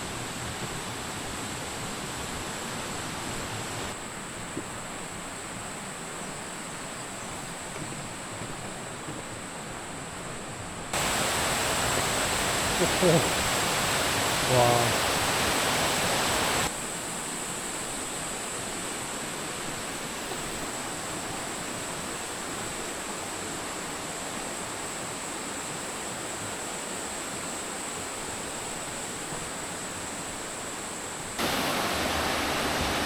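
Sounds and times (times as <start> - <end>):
mountain stream rushing: 0.0 - 33.0.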